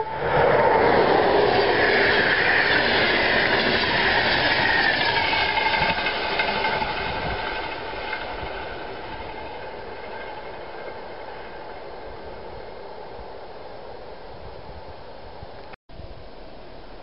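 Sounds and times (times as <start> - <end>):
passenger train passing: 0.0 - 15.4.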